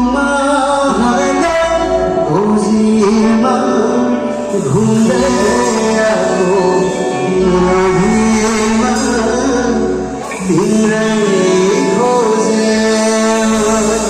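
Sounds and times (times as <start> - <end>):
live band playing: 0.0 - 14.0
person singing long notes: 0.0 - 14.0
steady low bass: 0.0 - 14.0.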